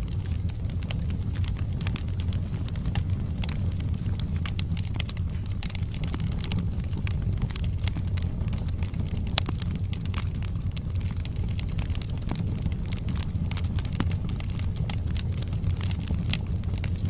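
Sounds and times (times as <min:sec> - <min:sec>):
burning logs crackling and popping: 0:00.0 - 0:17.0
fire rumbling: 0:00.0 - 0:17.0.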